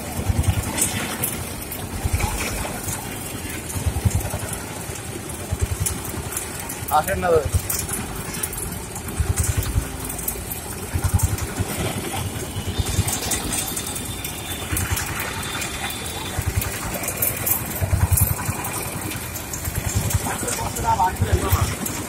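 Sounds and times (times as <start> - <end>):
engine running: 0.0 - 22.0
street noise: 0.0 - 22.0.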